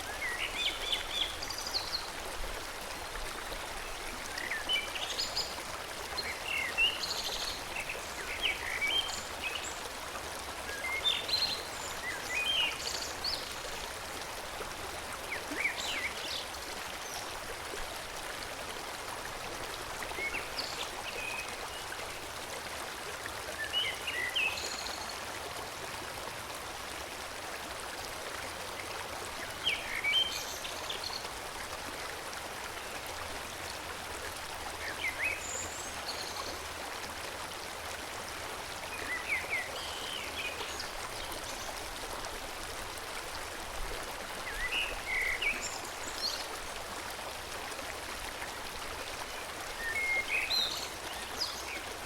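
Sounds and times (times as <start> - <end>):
forest stream flowing: 0.0 - 52.0.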